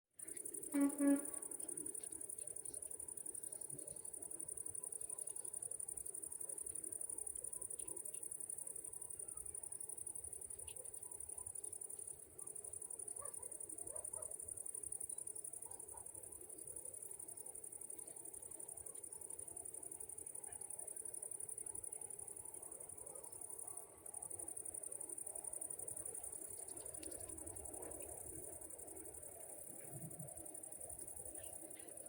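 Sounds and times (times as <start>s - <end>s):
insects trilling: 0.2s - 32.0s.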